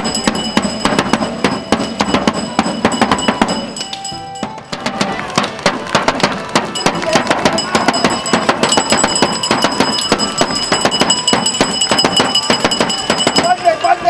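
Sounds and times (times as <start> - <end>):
field drum strikes: 0.0 - 13.8
crowd voices: 0.0 - 14.0.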